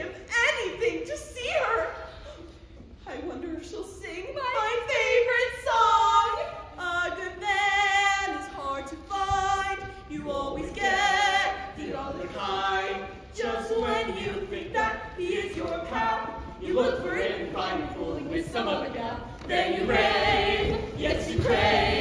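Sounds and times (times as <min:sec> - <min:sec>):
women singing a show tune: 0:00.0 - 0:02.2, 0:03.1 - 0:22.0.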